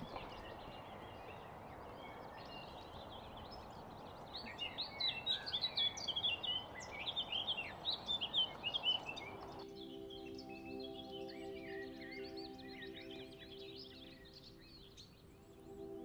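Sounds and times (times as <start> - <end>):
songbirds twittering and chirping: 0.0 - 16.0.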